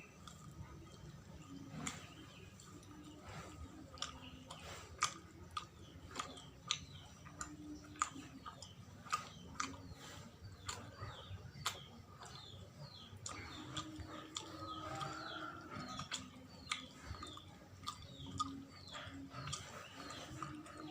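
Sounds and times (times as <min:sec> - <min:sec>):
person chewing sticky cake: 0:00.0 - 0:20.9.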